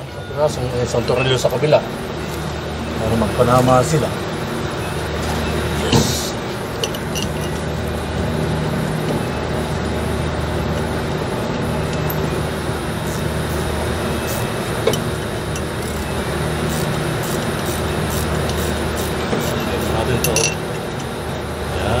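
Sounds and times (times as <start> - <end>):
air conditioning machinery hum: 0.0 - 22.0.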